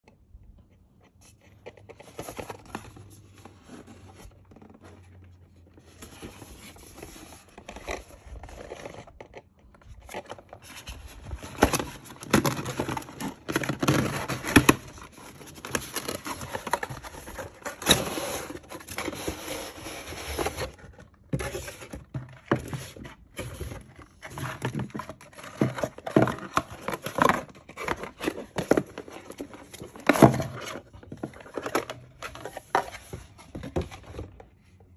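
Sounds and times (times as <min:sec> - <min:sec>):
cardboard box scraping and rustling: 0:01.9 - 0:09.4, 0:10.1 - 0:34.4.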